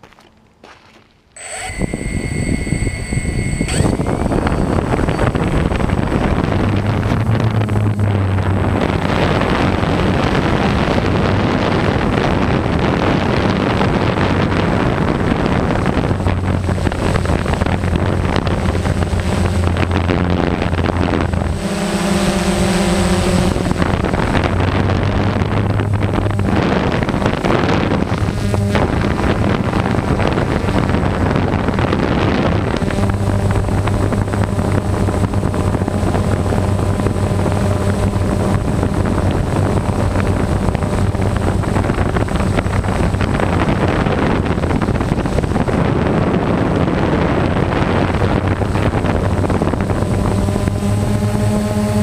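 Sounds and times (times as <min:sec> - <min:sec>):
wind noise: 0:00.0 - 0:52.0
drone motors whining: 0:01.4 - 0:45.9.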